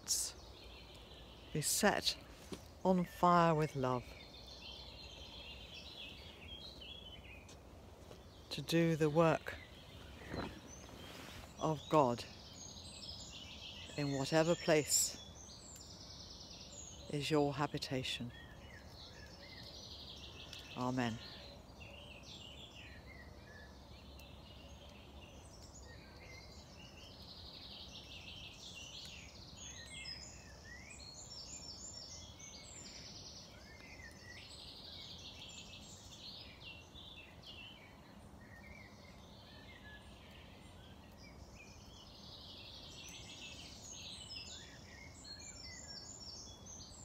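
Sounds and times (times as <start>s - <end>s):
low steady background hiss: 0.0s - 47.0s
songbirds chirping and trilling: 0.0s - 47.0s.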